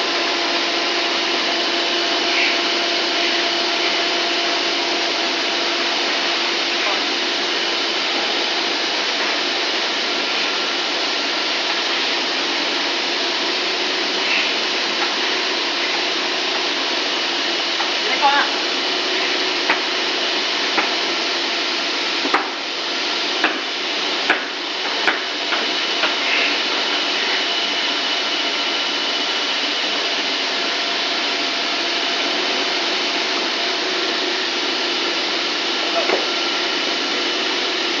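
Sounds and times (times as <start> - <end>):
extruder machine humming: 0.0 - 38.0.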